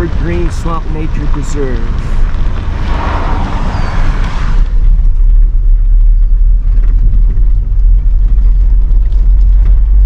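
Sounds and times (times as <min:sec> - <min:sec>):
loud low rumble: 0:01.3 - 0:10.0.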